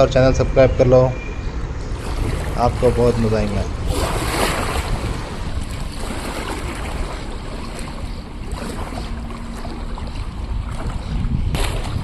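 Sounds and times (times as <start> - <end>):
gusty wind buffeting microphone: 0.0 - 12.0
choppy river waves splashing: 1.2 - 12.0.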